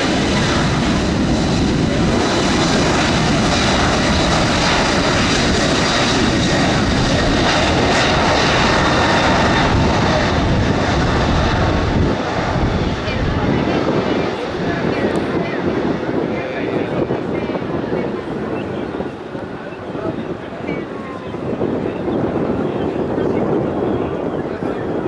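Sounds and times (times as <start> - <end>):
jet engines roaring at high thrust: 0.0 - 25.0.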